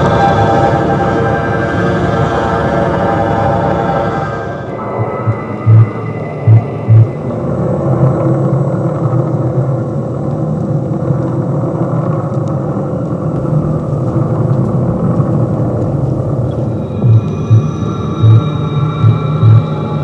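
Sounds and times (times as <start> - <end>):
spacecraft engine rumble: 0.0 - 20.0.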